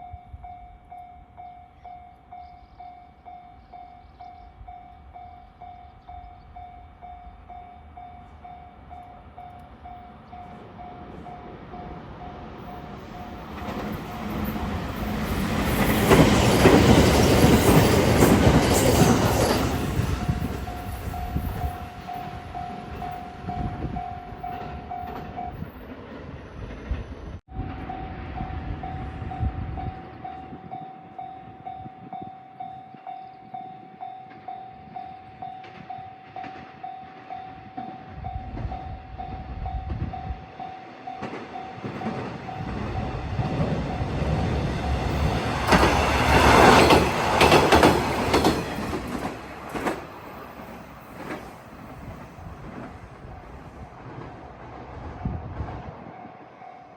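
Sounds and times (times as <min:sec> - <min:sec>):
crossing warning bell ringing: 0:00.0 - 0:25.8, 0:27.6 - 0:53.6
train rumble and wheel clatter: 0:00.0 - 0:56.9.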